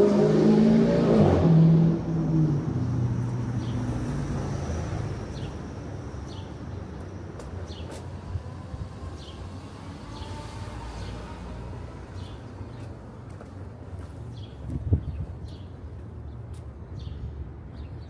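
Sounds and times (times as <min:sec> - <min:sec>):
street background: 0:00.0 - 0:18.0.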